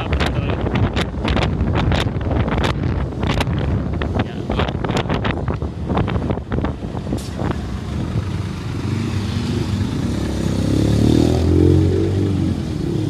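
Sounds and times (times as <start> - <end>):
road traffic passing: 0.0 - 13.0
vehicle engine rumbling: 0.0 - 13.0.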